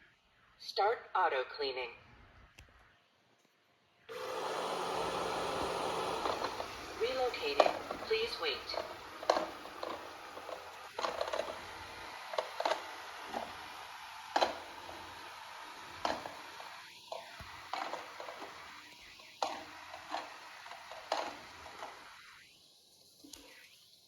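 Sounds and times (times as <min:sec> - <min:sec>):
robot vacuum hiss: 0:04.1 - 0:24.0.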